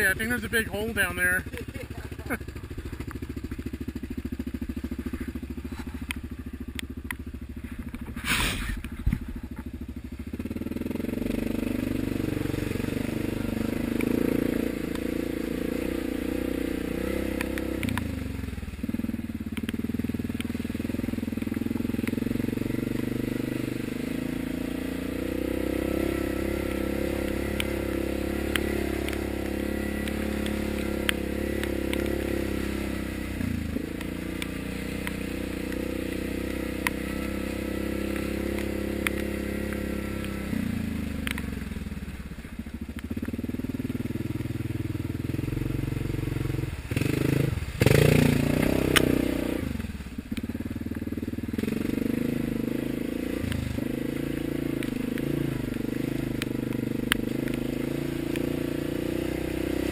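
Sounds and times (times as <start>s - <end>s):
atv engine running: 0.0s - 59.9s
clicks and knocks over ruts: 0.0s - 59.9s.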